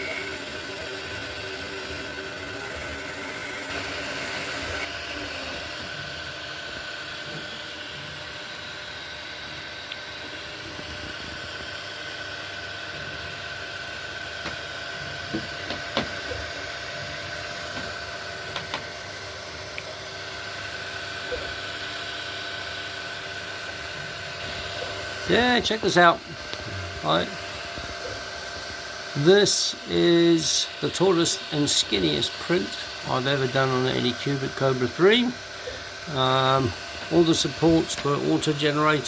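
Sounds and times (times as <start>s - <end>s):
cooling fans and stepper motors humming: 0.0s - 39.0s.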